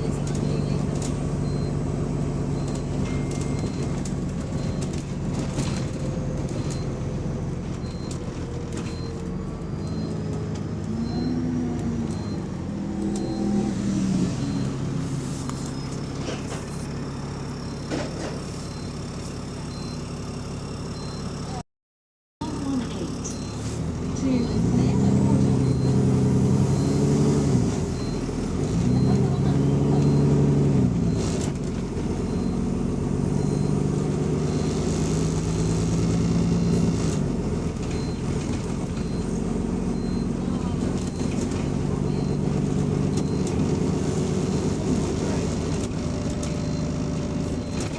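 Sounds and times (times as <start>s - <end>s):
diesel bus engine running: 0.0s - 21.6s, 22.4s - 47.9s.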